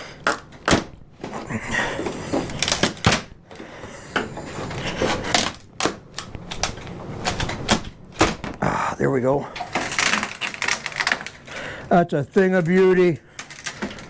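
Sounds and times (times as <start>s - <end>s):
wooden boards cracking: 0.0s - 3.7s, 4.8s - 8.6s, 9.6s - 14.0s.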